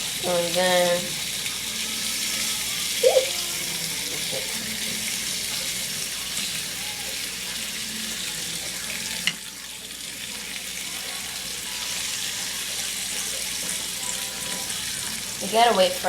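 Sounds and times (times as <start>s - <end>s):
bacon sizzling in a pan: 0.0s - 16.0s.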